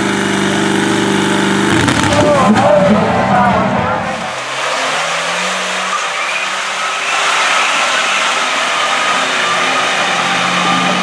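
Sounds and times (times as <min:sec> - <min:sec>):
four-wheel drive engine revving: 0:00.0 - 0:11.0.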